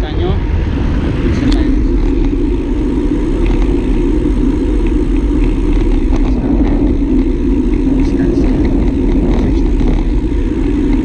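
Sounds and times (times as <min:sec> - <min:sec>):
bicycle tyre and road noise: 0:00.0 - 0:11.0
wind rush over microphone: 0:00.0 - 0:11.0.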